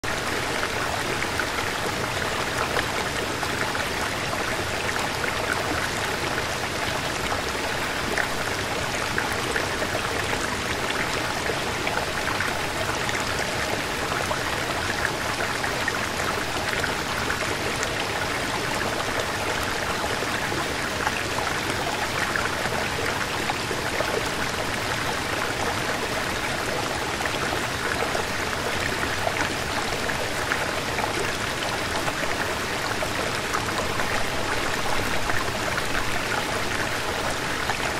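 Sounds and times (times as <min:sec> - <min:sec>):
waterfall rushing and splashing: 0:00.0 - 0:37.9.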